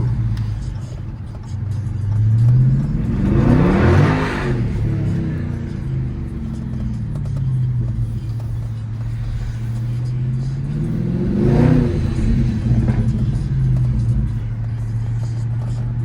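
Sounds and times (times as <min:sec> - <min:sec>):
car engine idling loud exhaust: 0:00.0 - 0:16.0
engine revving: 0:00.0 - 0:16.0.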